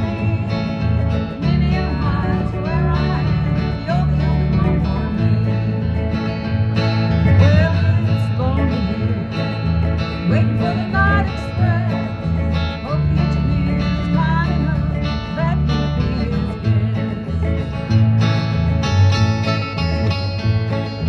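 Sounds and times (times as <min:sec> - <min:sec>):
acoustic guitar country tune: 0:00.0 - 0:21.0.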